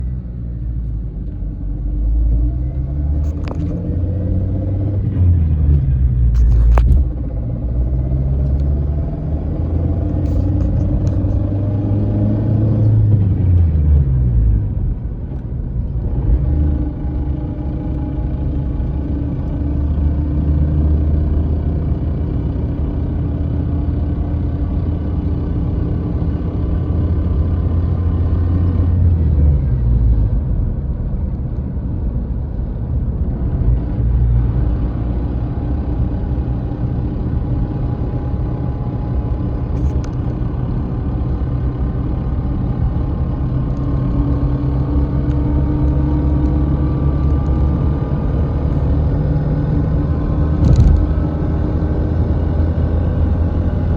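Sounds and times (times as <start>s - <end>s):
car mechanical hum: 0.0s - 20.0s, 24.0s - 53.9s.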